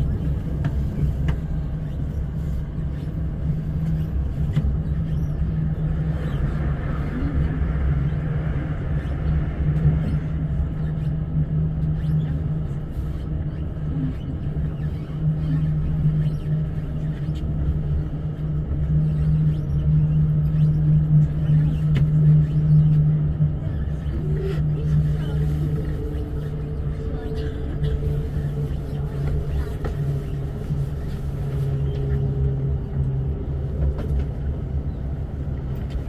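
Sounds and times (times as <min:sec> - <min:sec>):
constant low hum: 0:00.0 - 0:36.0
train wheels rumbling on rail: 0:00.0 - 0:36.0.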